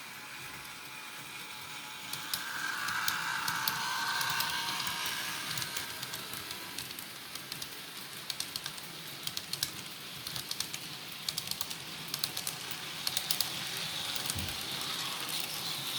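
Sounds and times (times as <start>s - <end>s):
steady hiss: 0.0s - 15.9s
model train wheels clicking: 0.5s - 15.9s.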